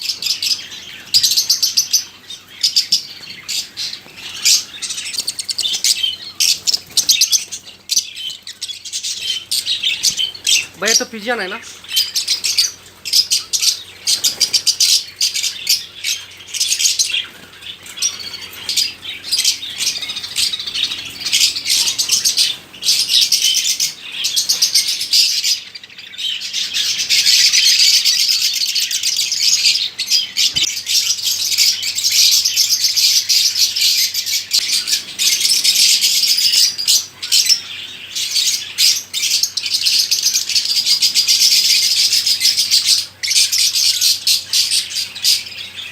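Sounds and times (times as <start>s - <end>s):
caged birds chirping: 0.0s - 45.9s.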